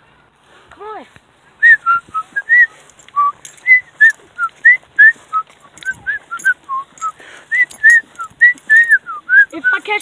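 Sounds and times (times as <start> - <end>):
person whistling a tune: 1.6 - 10.0.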